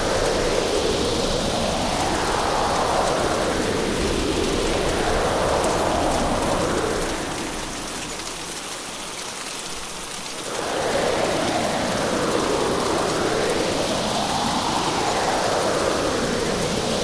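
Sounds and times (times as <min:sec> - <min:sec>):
heavy rain downpour: 0:00.0 - 0:17.0
wind: 0:00.0 - 0:17.0.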